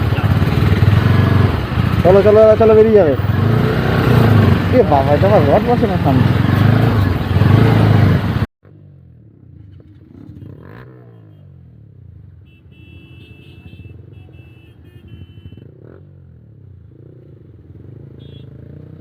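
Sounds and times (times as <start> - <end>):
vehicle engines at low speed: 0.0 - 19.0.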